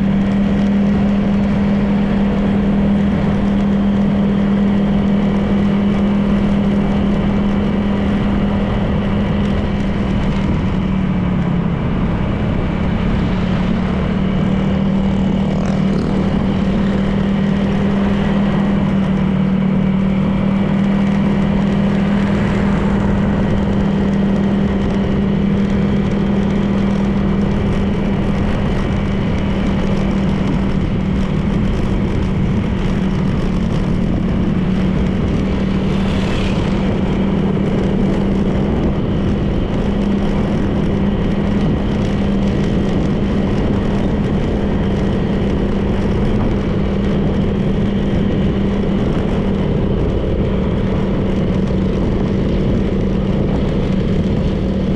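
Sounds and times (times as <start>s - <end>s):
scooter engine cruising: 0.0s - 54.9s
wind and road noise: 0.0s - 54.9s.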